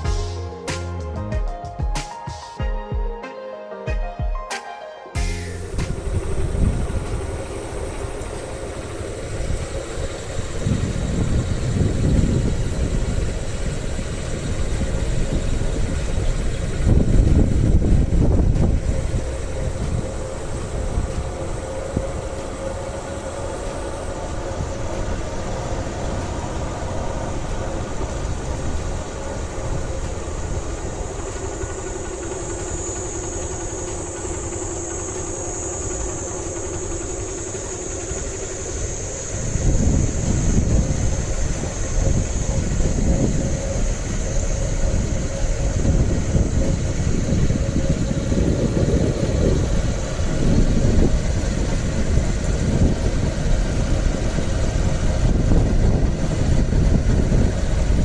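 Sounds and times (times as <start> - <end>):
motorcycle engine running: 5.2 - 58.0.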